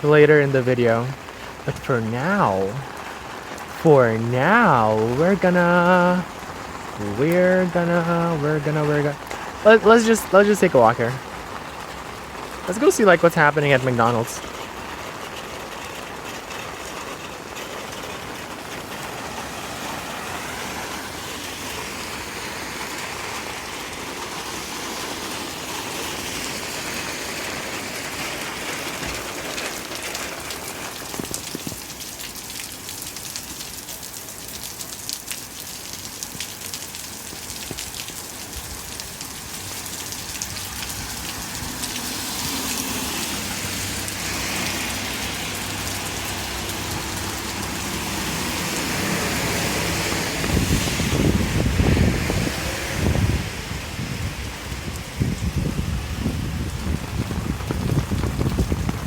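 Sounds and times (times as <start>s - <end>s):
rain drops tapping: 0.0s - 59.0s.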